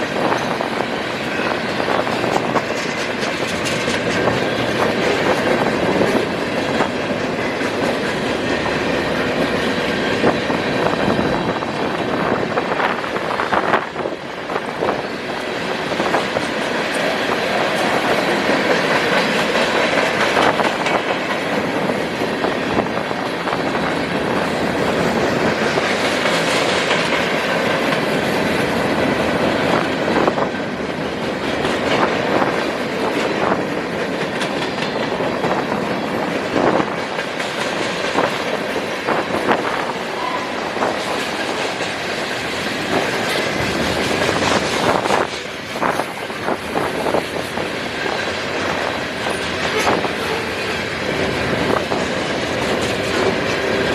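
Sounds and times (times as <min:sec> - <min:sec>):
freight train rolling past: 0:00.0 - 0:53.9
wheels clicking over rail joints: 0:00.0 - 0:53.9.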